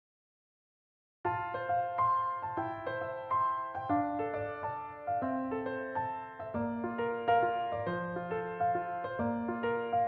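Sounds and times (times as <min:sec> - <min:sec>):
slow gentle piano ballad: 0:01.3 - 0:10.0.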